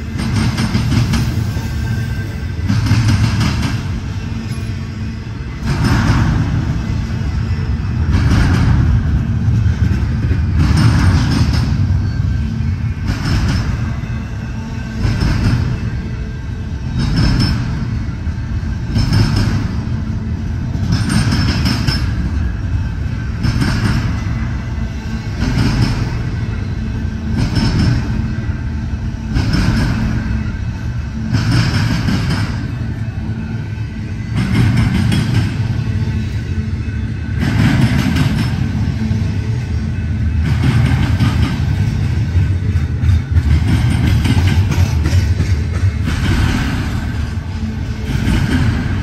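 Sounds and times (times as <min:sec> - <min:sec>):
loud rail clatter: 0:00.0 - 0:49.0
steel wheels rumbling on rail: 0:00.0 - 0:49.0.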